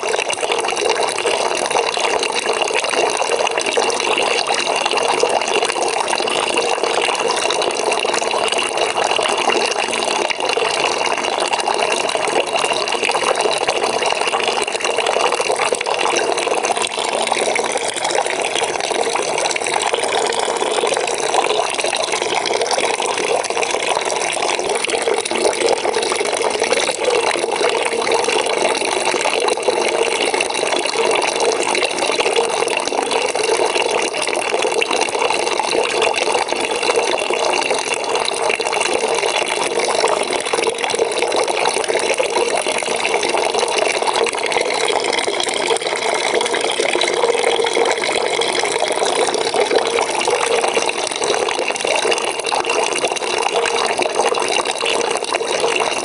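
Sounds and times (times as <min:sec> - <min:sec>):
water pouring into a bucket: 0:00.0 - 0:56.0.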